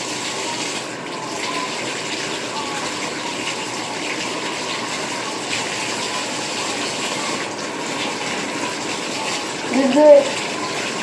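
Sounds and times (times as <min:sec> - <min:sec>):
tap water running into a tub: 0:00.0 - 0:11.0.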